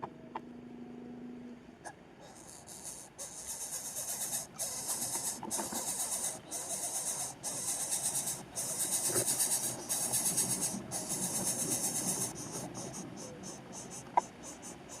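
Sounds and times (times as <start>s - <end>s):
cicadas buzzing: 2.2s - 15.0s.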